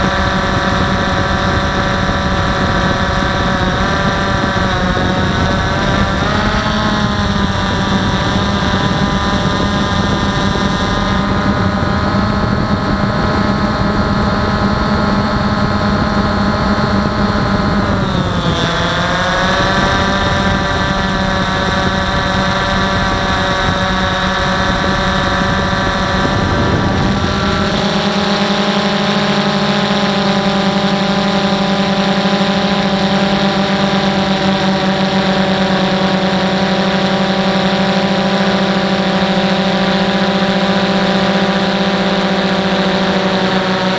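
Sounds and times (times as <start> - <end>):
drone propellers whining: 0.0 - 43.9.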